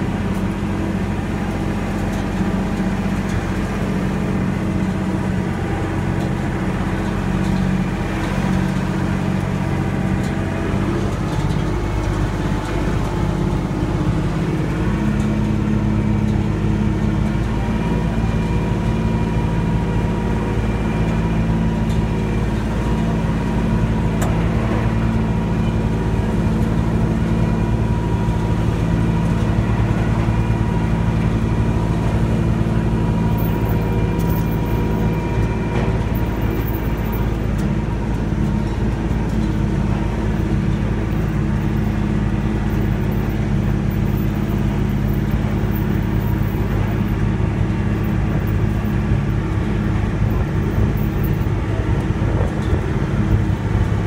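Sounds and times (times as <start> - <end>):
rumble of moving train cars: 0.0 - 54.0
train engine drone: 0.0 - 54.0.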